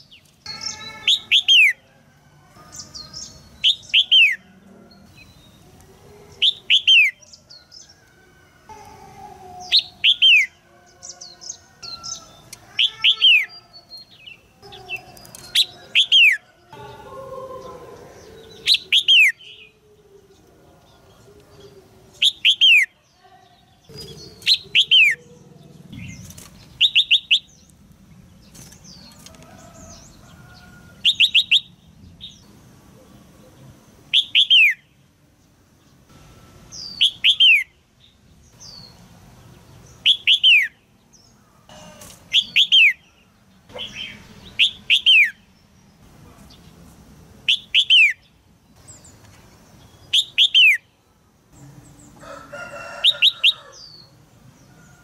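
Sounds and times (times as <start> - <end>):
bird chirping: 0.0 - 1.9, 2.6 - 55.0.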